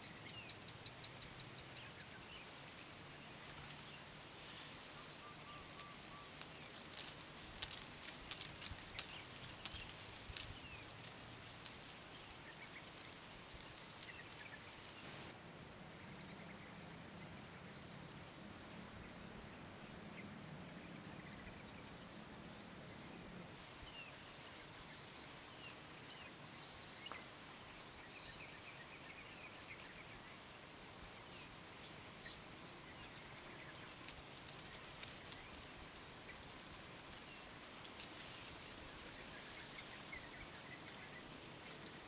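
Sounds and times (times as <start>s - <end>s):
faint ticks: 0.0s - 15.3s, 17.9s - 18.9s, 22.8s - 30.4s, 31.2s - 42.0s.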